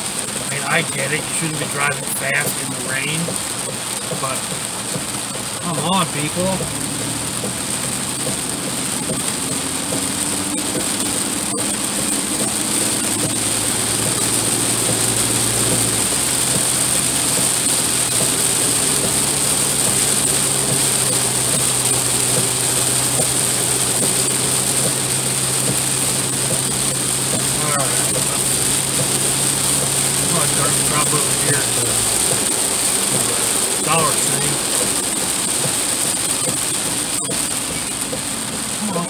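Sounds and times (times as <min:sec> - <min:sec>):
rain on truck roof: 0:00.0 - 0:39.0
truck engine and road noise: 0:00.0 - 0:39.0.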